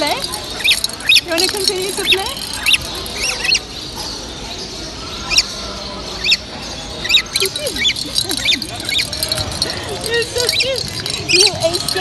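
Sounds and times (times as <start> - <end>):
murmur of busy hall: 0.0 - 12.0
parrots chirping: 0.0 - 12.0.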